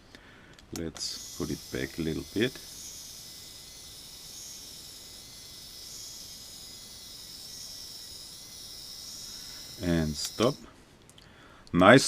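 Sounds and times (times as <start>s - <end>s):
small electric winch motor: 1.0s - 10.7s.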